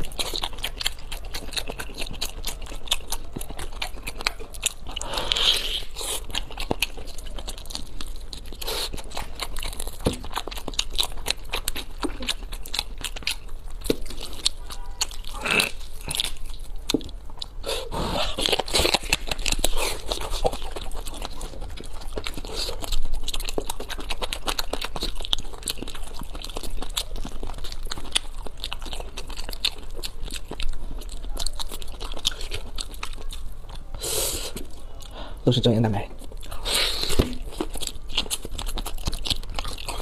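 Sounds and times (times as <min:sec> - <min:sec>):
mouth clicks and smacks: 0:00.0 - 0:35.2
person chewing meat: 0:00.0 - 0:40.0.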